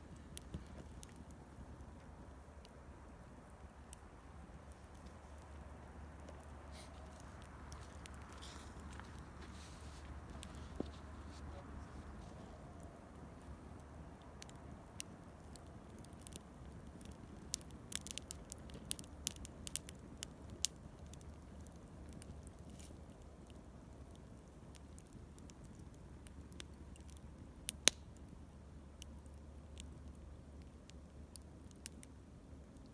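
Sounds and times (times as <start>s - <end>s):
campfire crackling: 0.0s - 32.9s
soft background noise: 0.0s - 32.9s.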